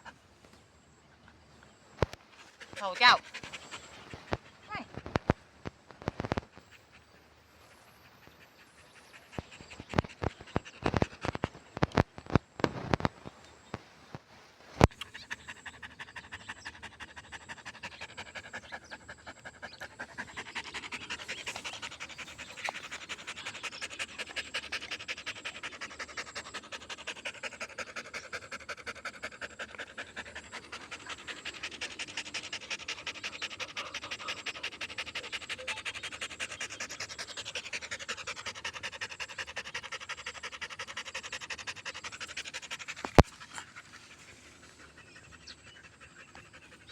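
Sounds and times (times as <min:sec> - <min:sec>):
dog panting rapidly: 0:02.4 - 0:05.0, 0:06.6 - 0:11.5, 0:15.0 - 0:46.9.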